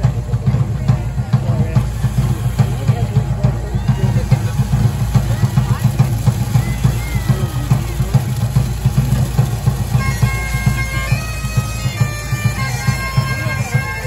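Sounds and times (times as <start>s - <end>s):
bagpipe music: 0.0s - 14.0s.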